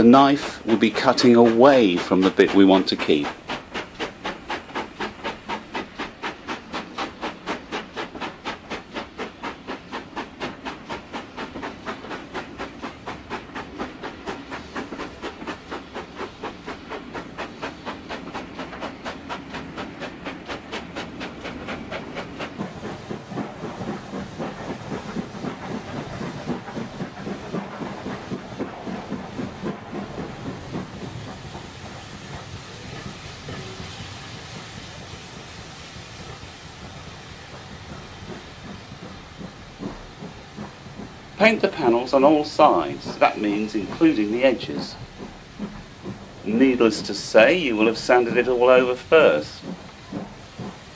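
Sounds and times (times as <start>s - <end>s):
steam locomotive chuffing: 0.0s - 50.9s
train running rumble: 0.0s - 50.9s.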